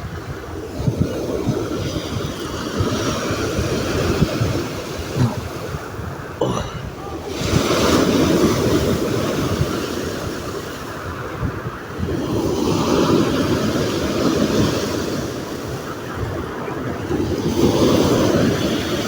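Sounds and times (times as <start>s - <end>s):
storm waves breaking on beach: 0.0s - 19.0s
wind buffeting microphone: 0.0s - 19.0s.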